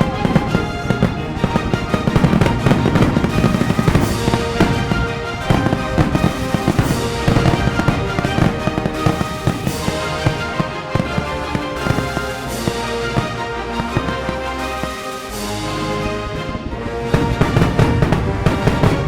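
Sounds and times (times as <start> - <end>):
fireworks bursting and crackling: 0.0 - 15.8, 16.5 - 19.0
background music: 0.0 - 19.0.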